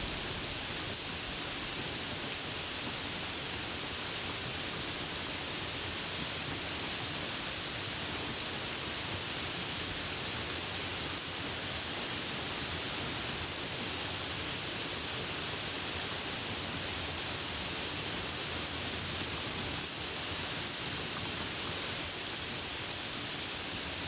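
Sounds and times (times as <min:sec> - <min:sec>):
heavy rain hissing: 0:00.0 - 0:24.0.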